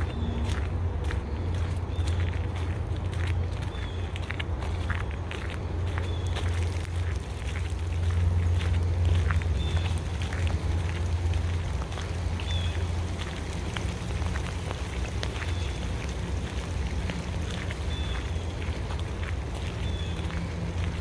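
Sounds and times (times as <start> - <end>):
raindrops ticking: 0.0 - 21.0
steady low rumble: 0.0 - 21.0.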